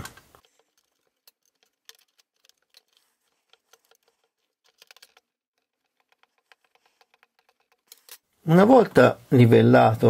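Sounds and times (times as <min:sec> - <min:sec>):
ruler scraping plasticine: 0:00.2 - 0:08.3.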